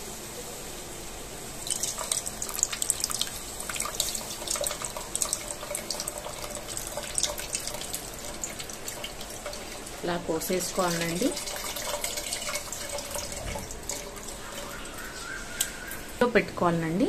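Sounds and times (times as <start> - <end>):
liquid trickling into a pot: 1.6 - 16.1.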